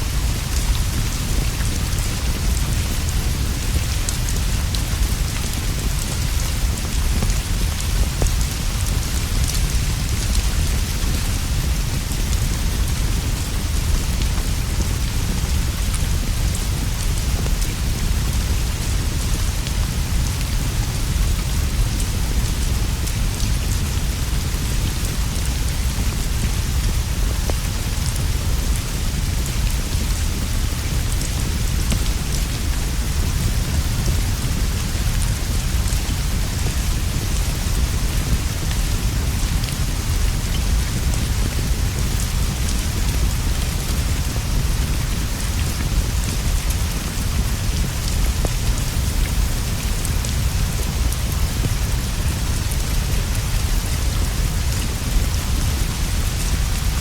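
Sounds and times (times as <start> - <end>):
heavy rain on roof and leaves: 0.0 - 57.0.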